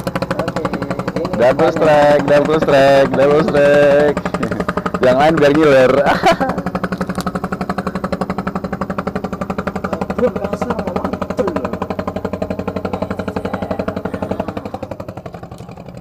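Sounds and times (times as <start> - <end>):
engine thudding steadily: 0.0 - 16.0.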